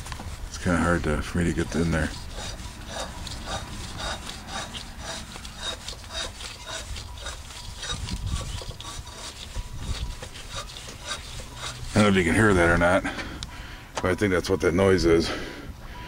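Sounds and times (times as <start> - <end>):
rhythmic rubbing squeak: 0.0 - 13.0.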